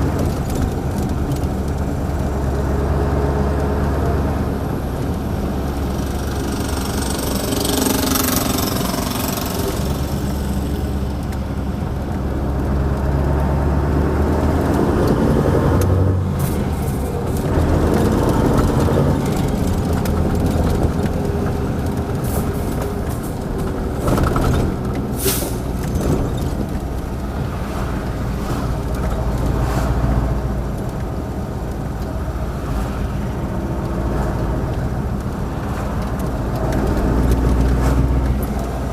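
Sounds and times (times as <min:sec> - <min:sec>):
truck diesel engine running: 0:00.0 - 0:13.2, 0:14.5 - 0:38.9.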